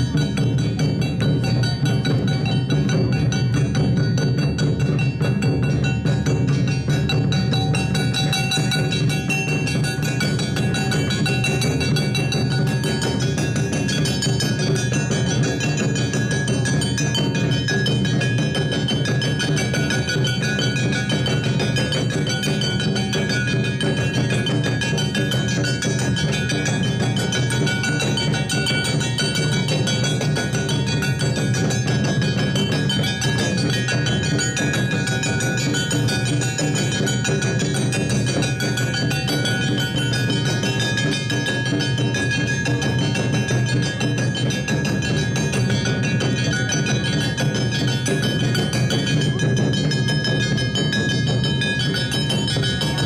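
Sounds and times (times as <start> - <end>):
drums beating steady rhythm: 0.0 - 53.0
hand-held gong clanging: 0.0 - 53.0.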